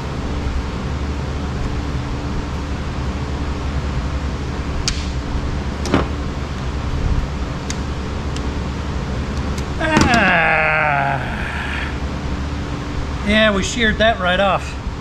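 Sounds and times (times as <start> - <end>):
mechanical drone with low hum: 0.0 - 15.0.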